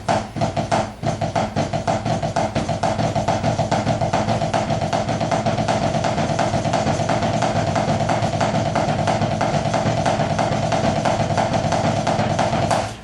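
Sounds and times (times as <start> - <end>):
snare drum rudiment: 0.0 - 13.0.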